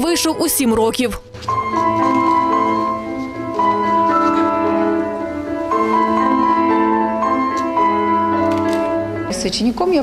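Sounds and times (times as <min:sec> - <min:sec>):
slow grand piano passage: 0:01.4 - 0:10.0.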